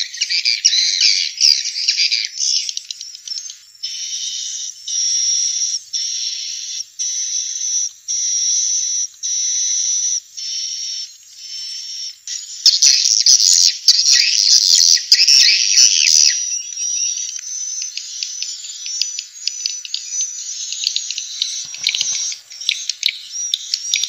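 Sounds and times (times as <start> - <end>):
buzzy chattering bird calls: 0.0 - 24.0
jumble of chirps and clicks: 1.8 - 14.4, 15.1 - 24.0.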